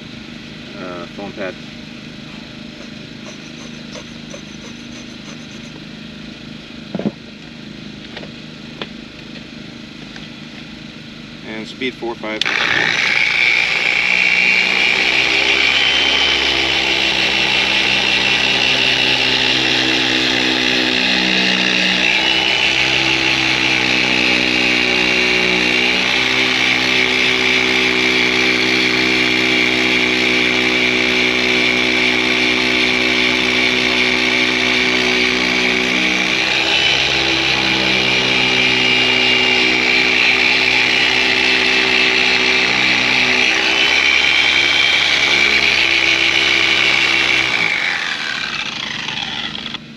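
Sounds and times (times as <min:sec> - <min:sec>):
machine polisher motor whine: 0:00.7 - 0:11.1, 0:12.4 - 0:49.9.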